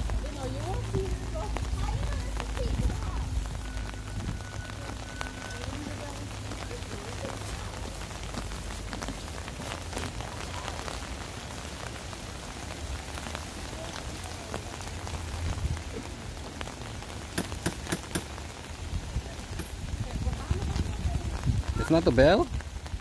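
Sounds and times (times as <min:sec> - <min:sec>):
louder rain taps: 0:00.0 - 0:23.0
steady rain falling: 0:00.0 - 0:23.0.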